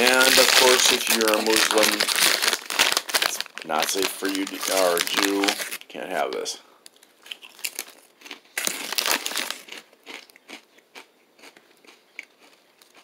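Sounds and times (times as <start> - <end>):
crunching and chewing chip: 0.0 - 5.8, 6.9 - 13.0.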